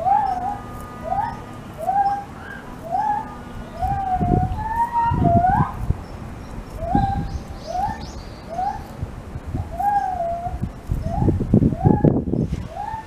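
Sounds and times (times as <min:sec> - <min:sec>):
bird whistling calls: 0:00.0 - 0:09.0, 0:09.6 - 0:13.0
low rumbling bumps: 0:00.0 - 0:13.0.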